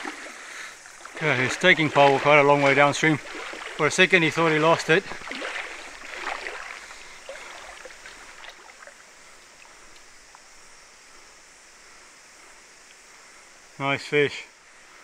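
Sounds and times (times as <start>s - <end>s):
stream water flowing: 0.0s - 13.8s
faint ticks and splashes: 0.0s - 15.0s.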